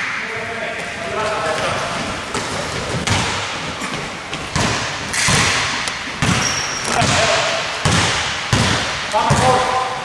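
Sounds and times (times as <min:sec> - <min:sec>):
basketball dribbling on court: 0:00.3 - 0:10.0.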